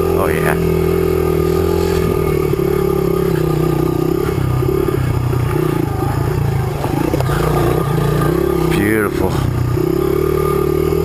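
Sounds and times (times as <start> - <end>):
trail bike engine at low revs: 0.0 - 11.0.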